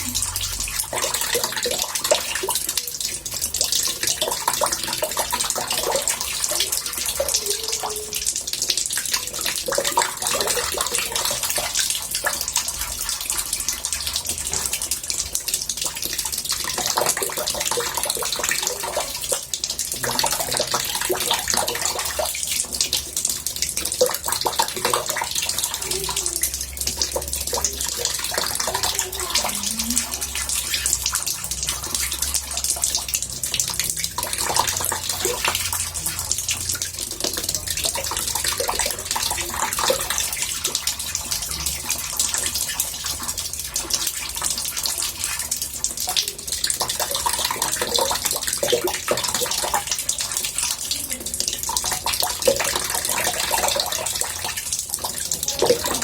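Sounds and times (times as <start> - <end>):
tap water pouring into bathtub: 0.0 - 56.0.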